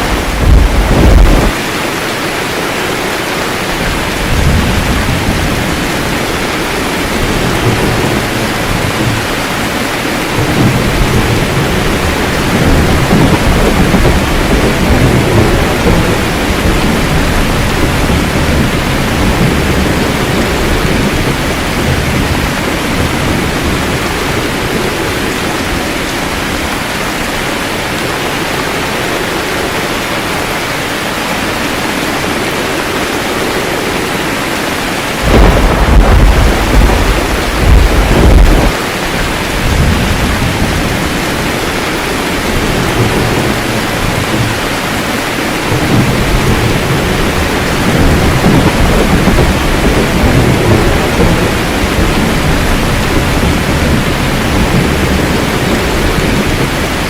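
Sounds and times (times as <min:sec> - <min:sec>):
low rolling thunder: 0:00.0 - 0:01.7, 0:03.8 - 0:30.4, 0:34.9 - 0:57.0
heavy rain: 0:00.0 - 0:57.0.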